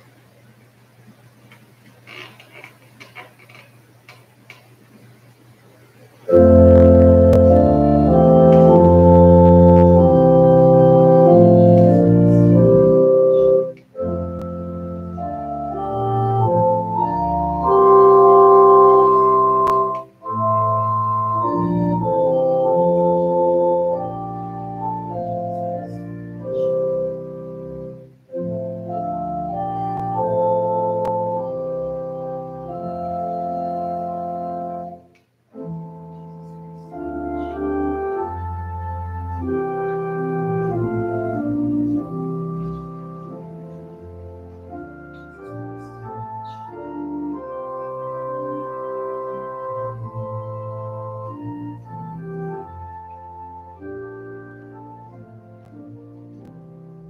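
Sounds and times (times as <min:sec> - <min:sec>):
organ playing slow chords: 0:06.1 - 0:57.0.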